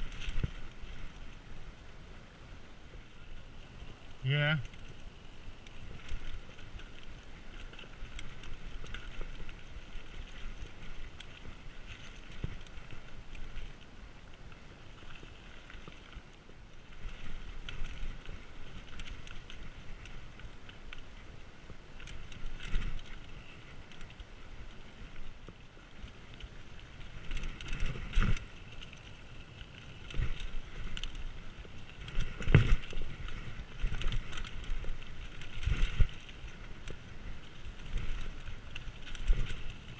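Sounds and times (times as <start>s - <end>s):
bike rattling: 0.0s - 39.9s
bike tyres rolling over dirt: 0.0s - 39.9s.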